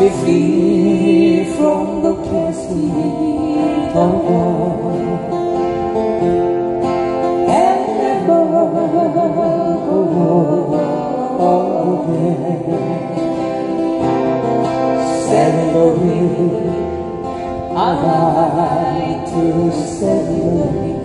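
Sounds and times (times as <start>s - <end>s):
acoustic guitars strumming: 0.0s - 21.0s
guitar melody line: 0.0s - 21.0s.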